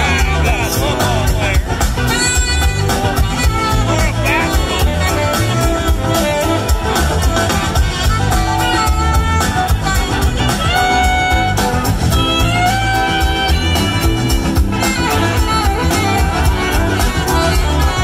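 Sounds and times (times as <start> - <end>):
live band music: 0.0 - 18.0
saxophone solo: 0.0 - 18.0.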